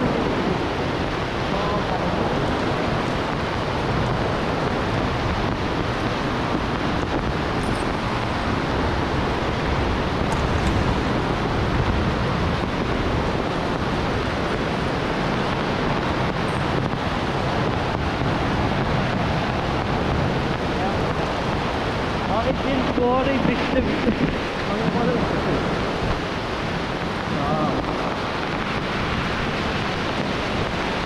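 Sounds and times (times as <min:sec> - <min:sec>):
heavy rain: 0:00.0 - 0:31.0
water running across ground: 0:00.0 - 0:31.0.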